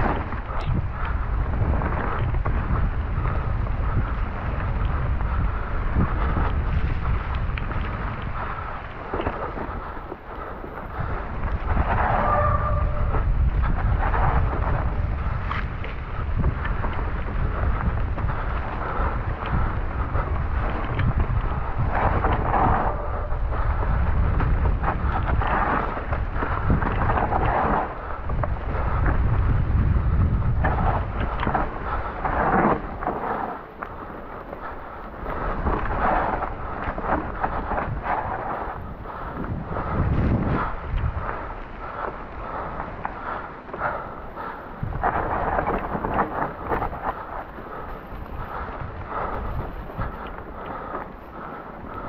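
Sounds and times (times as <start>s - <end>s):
bike knocks and rattles: 0.0s - 51.5s
bike tyres rolling on muddy trail: 0.0s - 52.0s
wind buffeting microphone: 0.0s - 52.0s.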